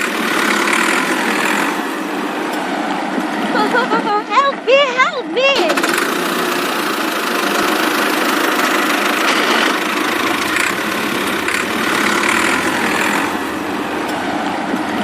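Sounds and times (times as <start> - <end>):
small engine droning: 0.0 - 4.0, 5.6 - 15.0.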